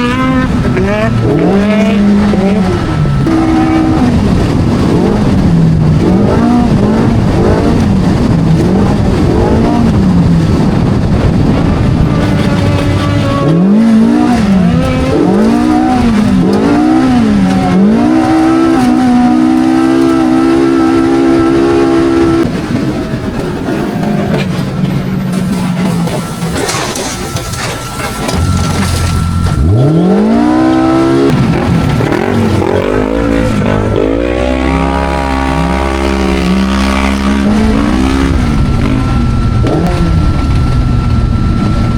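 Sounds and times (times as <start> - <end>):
race engine revving: 0.0 - 41.9.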